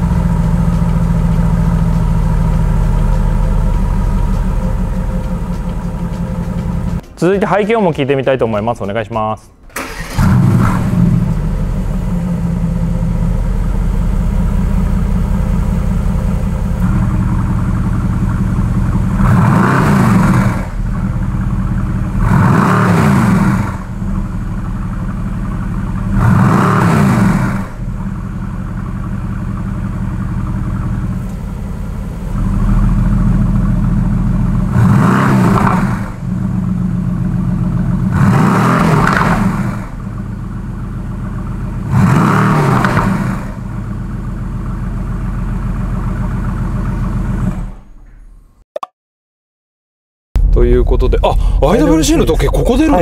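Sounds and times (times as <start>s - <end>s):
car engine idling and revving: 0.0s - 7.2s, 9.7s - 48.1s, 50.4s - 53.0s.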